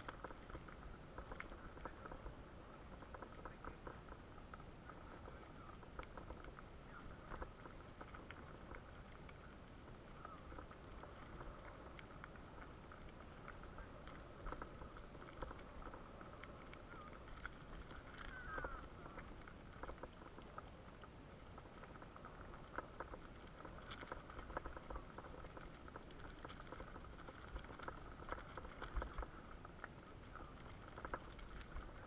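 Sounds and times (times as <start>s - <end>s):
thin steady whine: 0.0s - 32.0s
wheels crackling on gravel: 0.0s - 32.0s.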